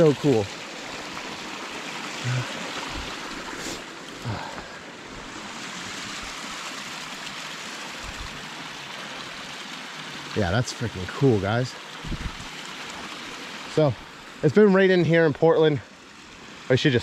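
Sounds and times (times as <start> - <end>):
creek splashing over rocks: 0.0 - 17.0.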